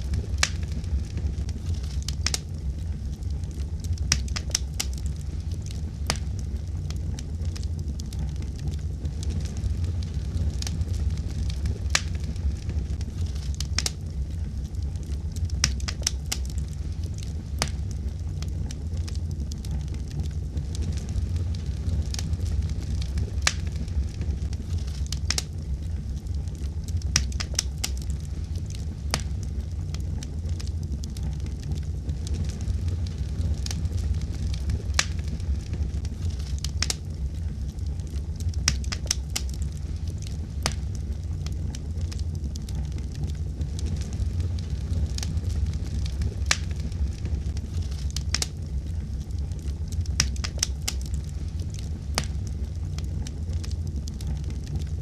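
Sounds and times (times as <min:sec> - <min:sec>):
fire crackling and popping: 0:00.0 - 0:55.0
fire low rumble: 0:00.0 - 0:55.0.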